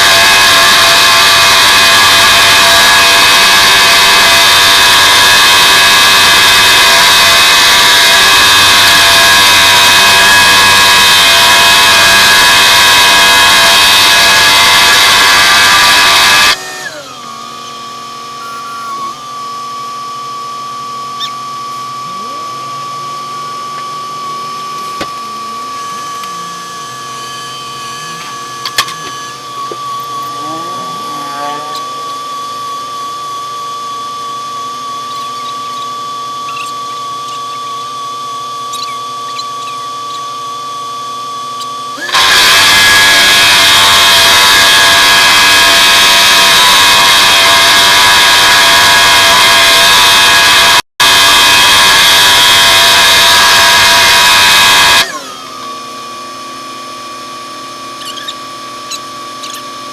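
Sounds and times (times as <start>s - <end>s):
loud noisy machine sound: 0.0s - 56.2s
machine high-pitched whine: 0.0s - 56.2s.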